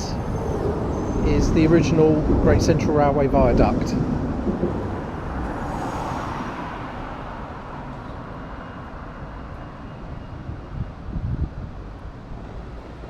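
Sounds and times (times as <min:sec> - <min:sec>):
low traffic rumble: 0:00.0 - 0:13.0
passing vehicle: 0:00.0 - 0:13.0.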